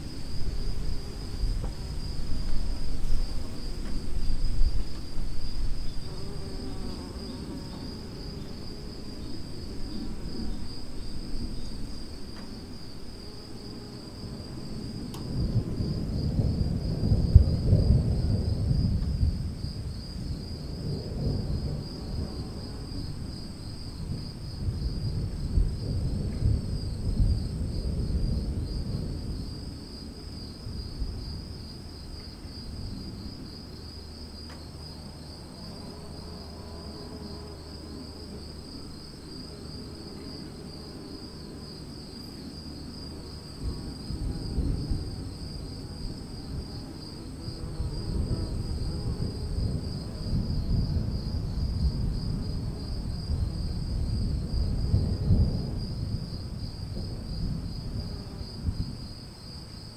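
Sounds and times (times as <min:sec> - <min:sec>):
distant thunder rumbling: 0:00.0 - 0:37.4, 0:42.6 - 0:59.3
crickets chirping: 0:00.0 - 0:59.9.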